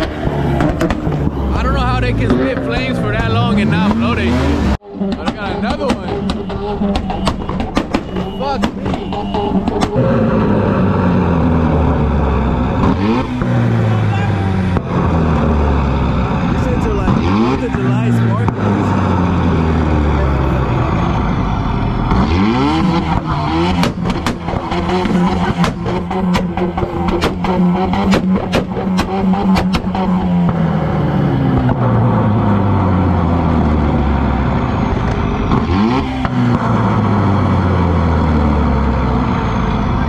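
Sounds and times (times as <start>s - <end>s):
car engine revving: 0.0s - 40.0s
exhaust cracking and popping: 0.0s - 40.0s.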